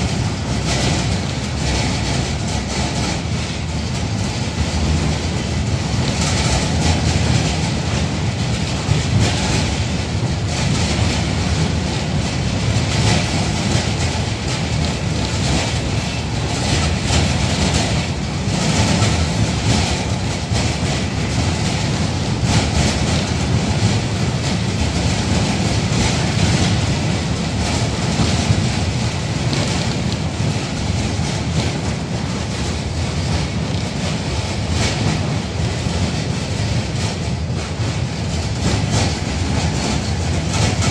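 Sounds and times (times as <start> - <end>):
clatter and rattle: 0.0 - 40.9
tram wheels rumbling on rails: 0.0 - 40.9.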